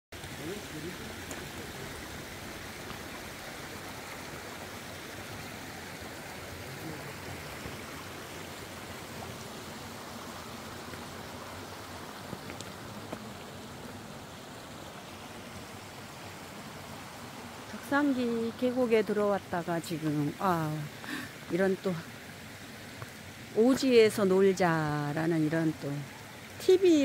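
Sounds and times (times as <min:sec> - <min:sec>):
stream rushing: 0:00.1 - 0:27.0.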